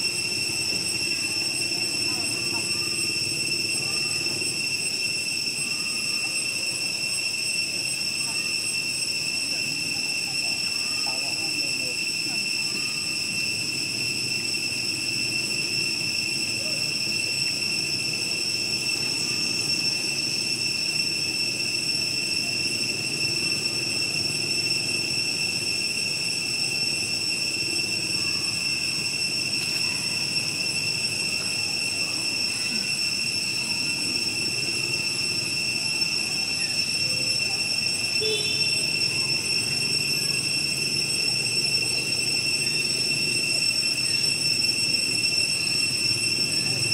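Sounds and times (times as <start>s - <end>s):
high-pitched insect drone: 0.0s - 46.9s.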